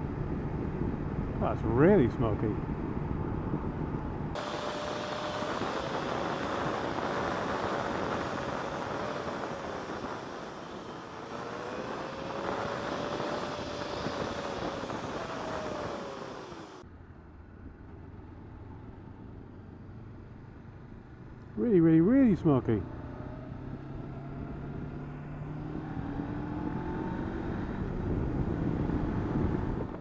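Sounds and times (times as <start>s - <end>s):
motorcycle engine whine: 0.0s - 30.0s
road noise rush: 0.0s - 30.0s.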